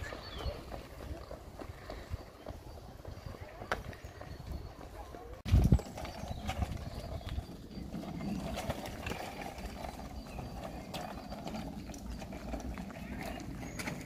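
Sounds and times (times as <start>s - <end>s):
footsteps on paved path: 0.0s - 14.0s.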